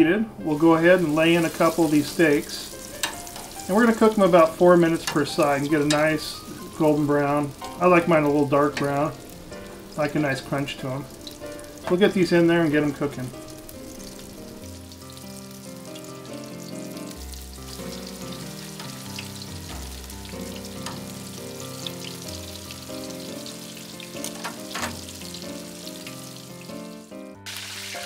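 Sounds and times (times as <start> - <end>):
steaks sizzling in a skillet: 0.5 - 28.0.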